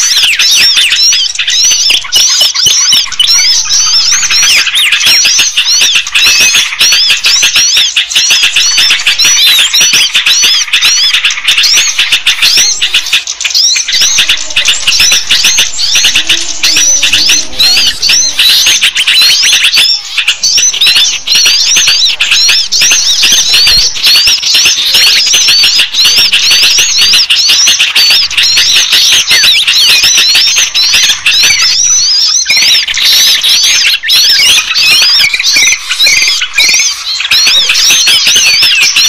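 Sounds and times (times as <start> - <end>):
songbirds chirping and twittering: 0.0 - 39.0.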